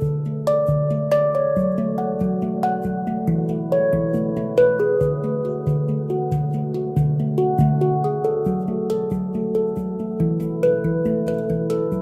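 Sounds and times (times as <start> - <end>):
calm relaxation music: 0.0 - 12.0.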